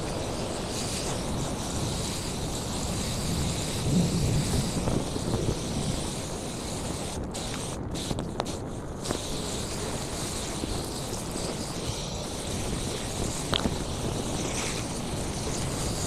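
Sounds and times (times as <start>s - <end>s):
garden hose spraying water: 0.0s - 16.0s.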